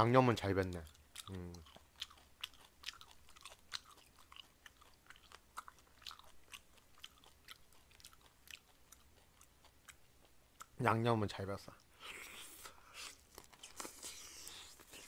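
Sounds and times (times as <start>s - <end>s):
wet chewing and mouth clicks: 0.4s - 10.8s, 11.8s - 15.0s.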